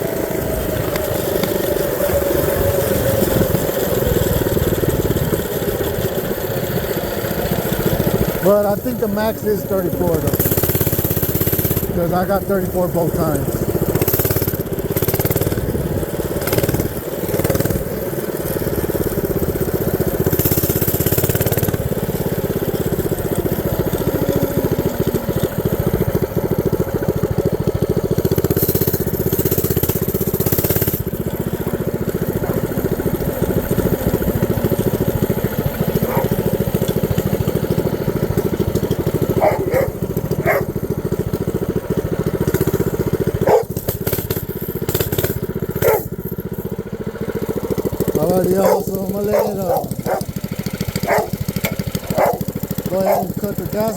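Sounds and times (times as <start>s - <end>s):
mini bike engine idling: 0.0s - 53.9s.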